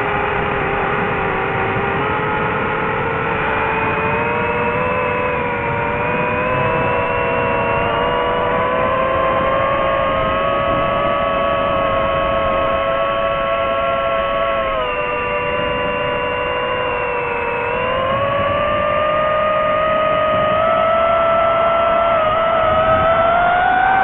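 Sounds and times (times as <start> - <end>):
drone propellers whining: 0.0 - 24.0.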